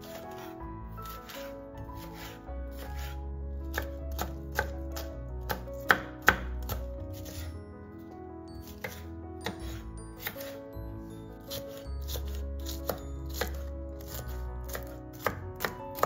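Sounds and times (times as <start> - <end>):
background music: 0.0 - 16.0
knife chopping on cutting board: 0.1 - 7.5, 8.6 - 10.6, 11.5 - 16.0.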